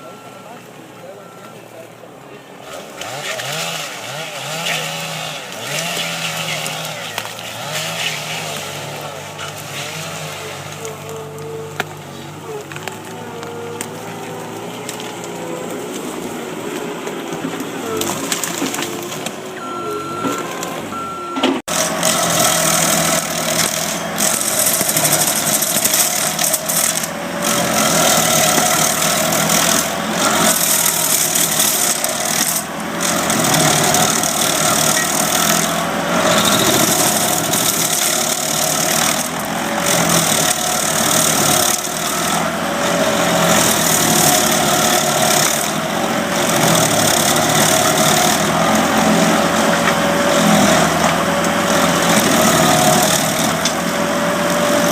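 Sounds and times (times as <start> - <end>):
small gasoline engine running: 2.6 - 20.3, 20.9 - 54.9.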